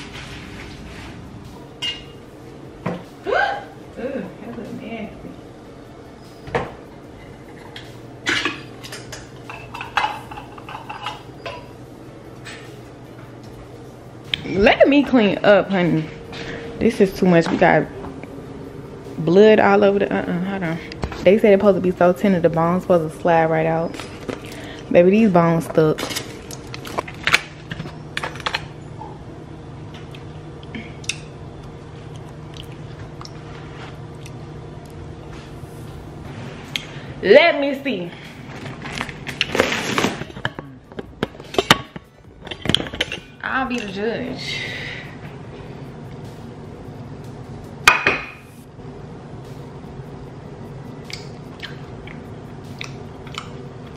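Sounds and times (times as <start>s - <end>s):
low steady hum: 0.0s - 53.9s.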